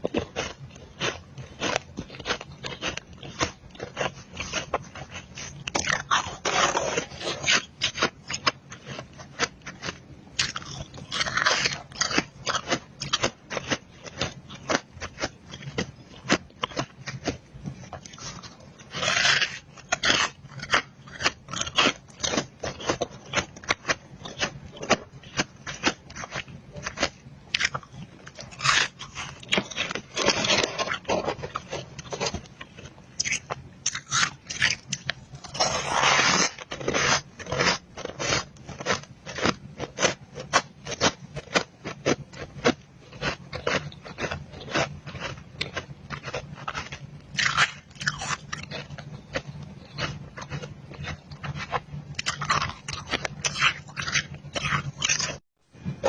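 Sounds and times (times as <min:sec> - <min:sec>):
chewing crunchy ice: 0:00.0 - 0:55.4.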